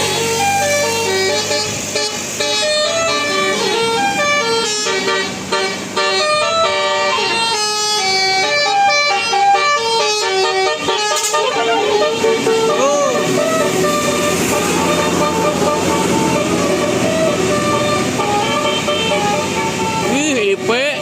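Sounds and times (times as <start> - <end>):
bus horn playing a melody: 0.0 - 21.0.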